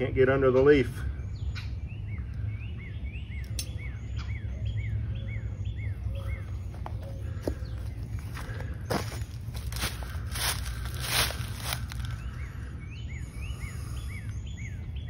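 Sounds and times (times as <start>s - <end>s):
low outdoor rumble: 0.0s - 15.0s
songbird singing: 0.0s - 15.0s.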